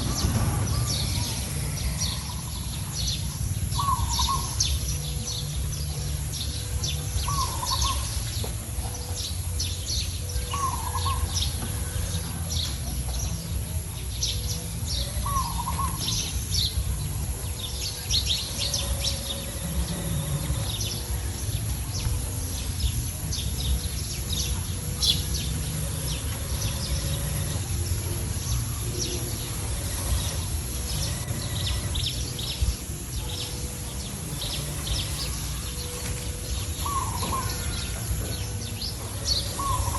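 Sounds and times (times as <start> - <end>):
birds chirping: 0.0 - 39.9
steady low rumble: 0.0 - 39.9.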